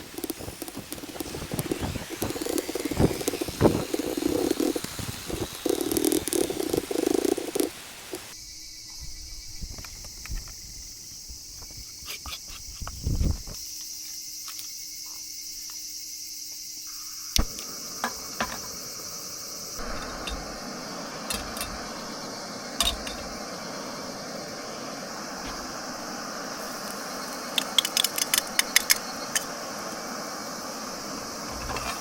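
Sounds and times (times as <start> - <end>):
insect chorus chirring: 0.0 - 32.0.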